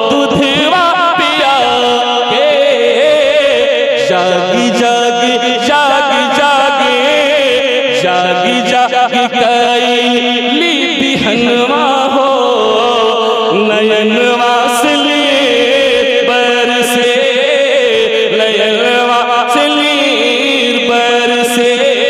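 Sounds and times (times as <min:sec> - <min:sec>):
man singing into microphone: 0:00.0 - 0:22.0.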